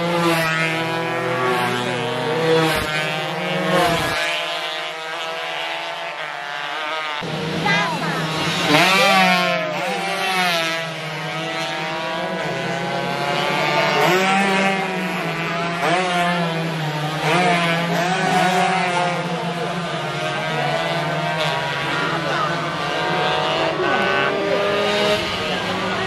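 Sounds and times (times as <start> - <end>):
racing motorcycle engines revving: 0.0 - 26.0.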